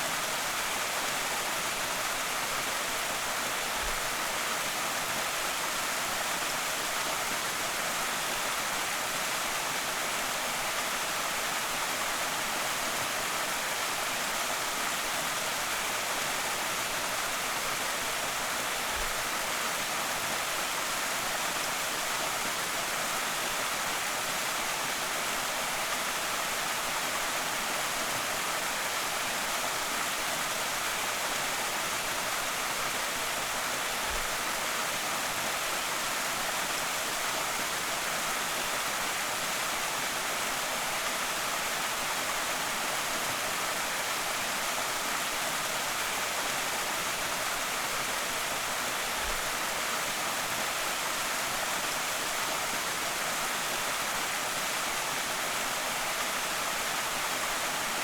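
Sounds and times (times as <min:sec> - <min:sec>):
small waterfall pouring and splashing: 0:00.0 - 0:58.0.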